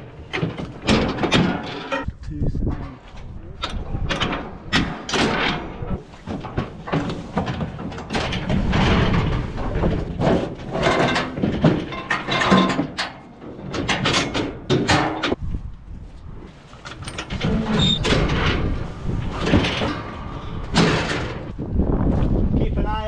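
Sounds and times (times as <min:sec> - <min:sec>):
metal cattle crush rattling: 0:00.0 - 0:02.1, 0:02.7 - 0:15.4, 0:16.3 - 0:21.7
metal gates banging: 0:00.0 - 0:02.1, 0:03.6 - 0:15.4, 0:16.8 - 0:21.6.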